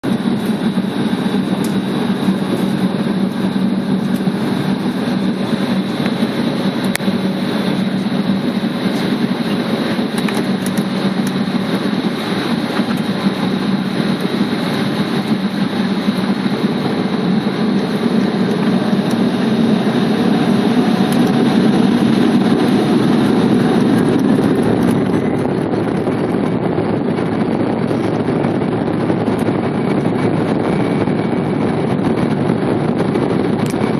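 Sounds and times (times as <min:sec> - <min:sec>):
jet engines droning and whining: 0:00.0 - 0:33.9.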